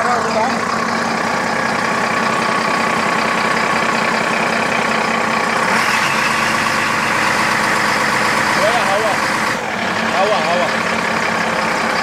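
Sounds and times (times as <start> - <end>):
wheel loader diesel engine running: 0.0 - 12.0.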